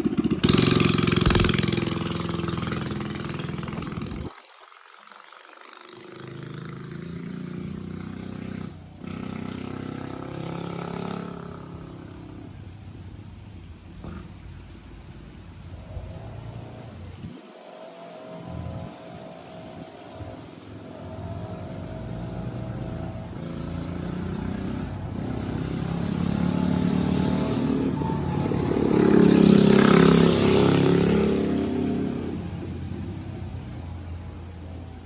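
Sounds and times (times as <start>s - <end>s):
mini bike engine passing by: 0.0s - 17.4s, 18.0s - 35.0s.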